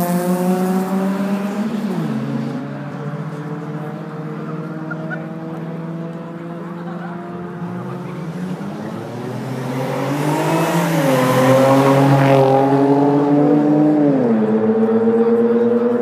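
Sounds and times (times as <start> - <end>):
vehicle engine accelerating: 0.0 - 16.0.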